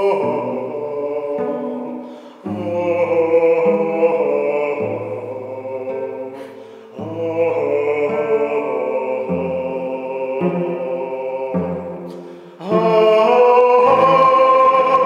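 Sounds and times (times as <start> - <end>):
bowed cello notes: 0.0 - 15.0.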